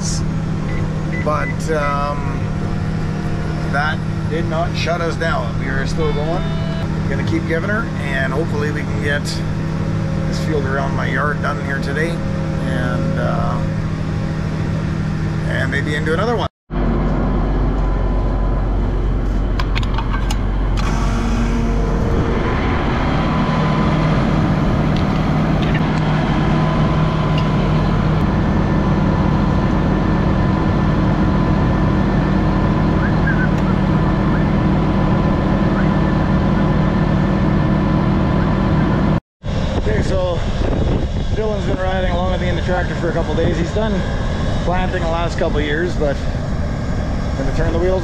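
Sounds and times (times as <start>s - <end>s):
fuel pump humming: 0.0s - 16.4s, 17.0s - 48.0s.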